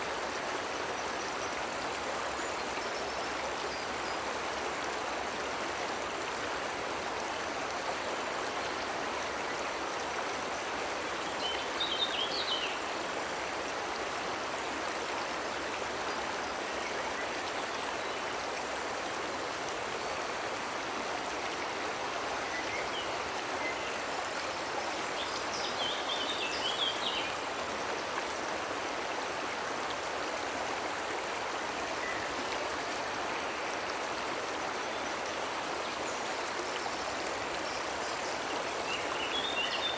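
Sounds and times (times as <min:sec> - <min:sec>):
cascading water rushing: 0:00.0 - 0:39.9.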